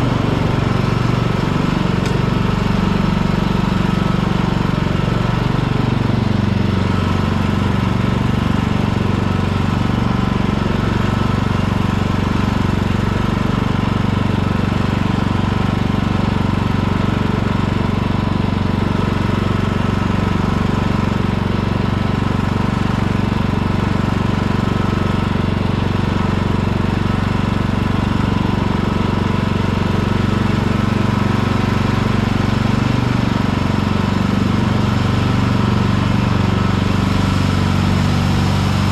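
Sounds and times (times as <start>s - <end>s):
ride-on mower engine: 0.0s - 38.9s.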